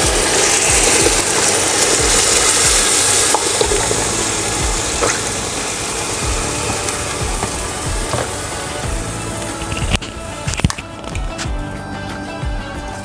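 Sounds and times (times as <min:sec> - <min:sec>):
milk sizzling in a hot pan: 0:00.0 - 0:10.8.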